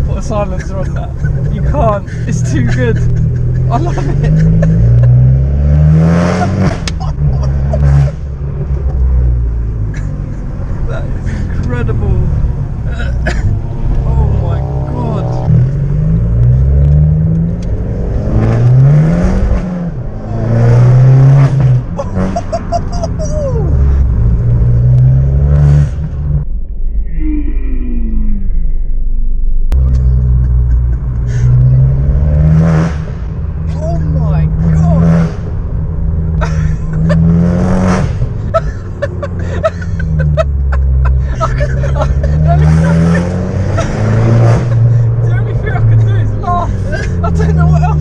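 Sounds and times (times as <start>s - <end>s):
car engine accelerating hard: 0.0s - 26.4s, 29.7s - 48.0s.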